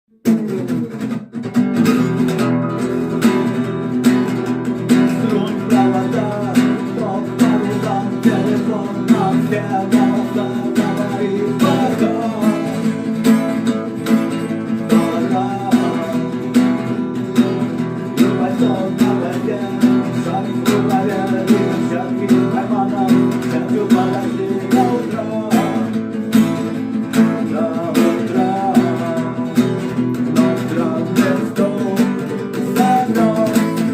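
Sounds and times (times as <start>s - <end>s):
acoustic guitar strumming: 0.1s - 33.9s.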